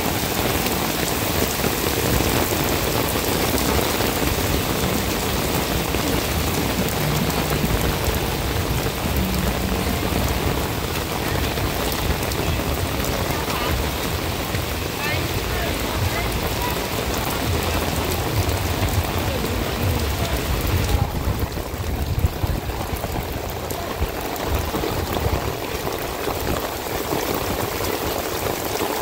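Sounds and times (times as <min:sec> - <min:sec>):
heavy rain on paved street: 0:00.0 - 0:29.0.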